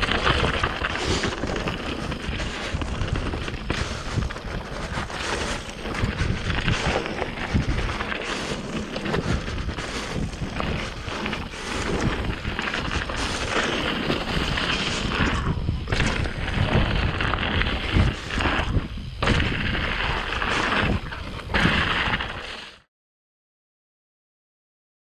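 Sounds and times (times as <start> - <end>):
bike knocking over rocks: 0.0 - 22.4
tyres rolling over rocks and leaves: 0.0 - 22.6
wind rumble on microphone: 0.0 - 22.8.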